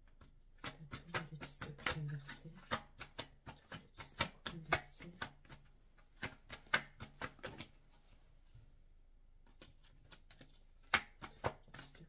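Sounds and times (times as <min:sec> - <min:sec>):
cards shuffling: 0:00.1 - 0:08.2, 0:09.4 - 0:12.0.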